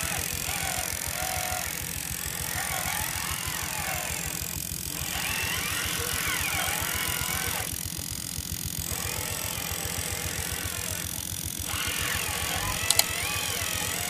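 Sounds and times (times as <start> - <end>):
electric drivetrain whirring: 0.0 - 14.0.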